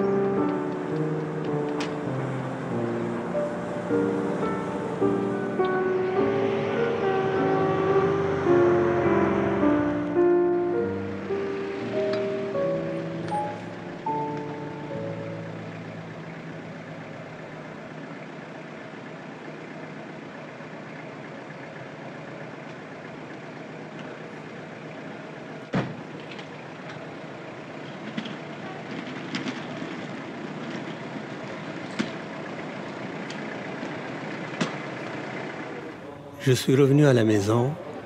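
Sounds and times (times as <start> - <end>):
car engine idling: 0.0 - 38.0
outdoor noise: 0.0 - 38.0.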